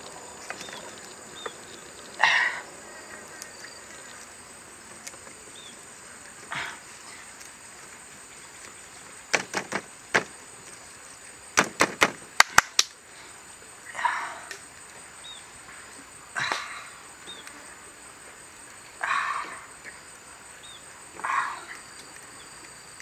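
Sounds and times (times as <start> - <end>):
high insect buzz: 0.0 - 23.0.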